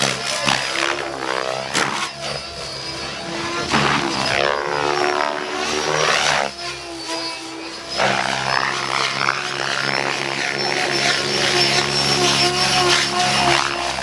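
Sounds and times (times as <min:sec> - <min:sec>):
rc helicopter rotor and motor whine: 0:00.0 - 0:14.0.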